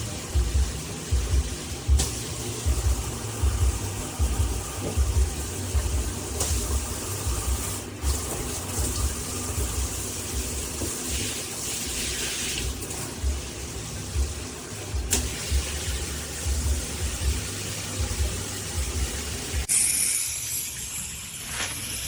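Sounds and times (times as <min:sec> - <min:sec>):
shower spraying into bathtub: 0:00.0 - 0:22.0.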